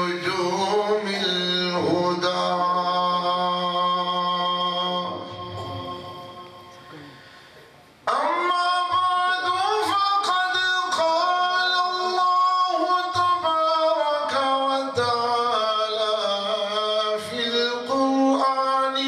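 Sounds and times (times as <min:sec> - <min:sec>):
man chanting: 0:00.0 - 0:07.1, 0:08.0 - 0:19.0.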